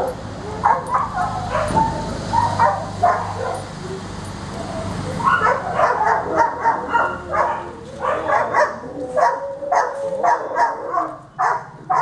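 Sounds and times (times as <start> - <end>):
dog whining and yipping: 0.4 - 12.0.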